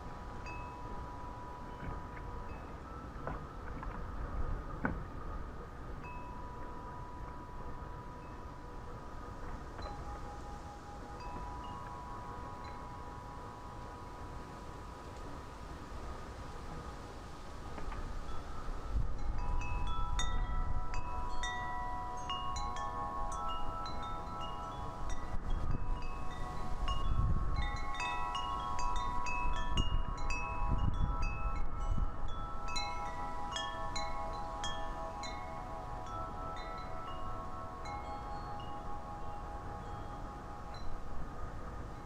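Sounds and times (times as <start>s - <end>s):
wind chimes ringing: 0.0s - 42.0s
wind gusts on microphone: 0.0s - 42.0s.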